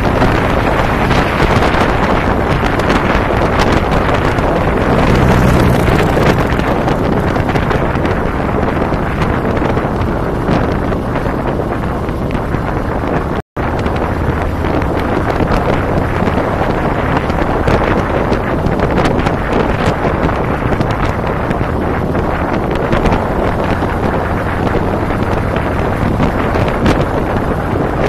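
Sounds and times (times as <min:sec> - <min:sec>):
motorcycle engines running: 0:00.0 - 0:28.0
wind buffeting microphone: 0:00.0 - 0:28.0.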